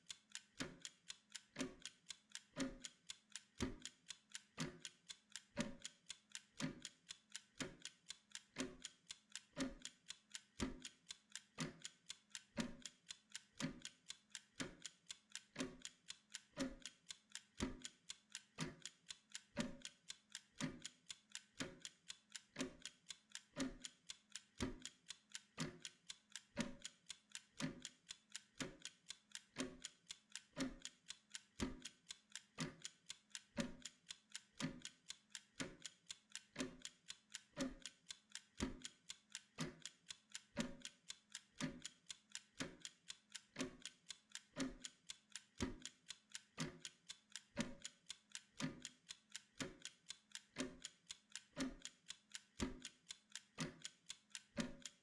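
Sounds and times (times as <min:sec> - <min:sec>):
kitchen timer ticking: 0:00.0 - 0:55.0.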